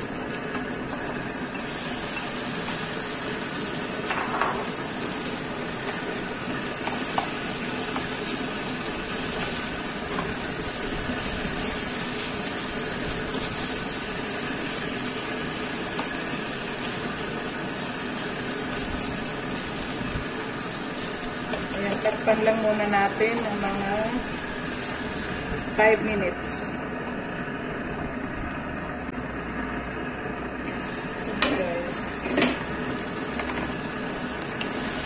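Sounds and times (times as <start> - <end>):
chicken sizzling in hot oil: 0.0 - 28.7, 30.4 - 35.0.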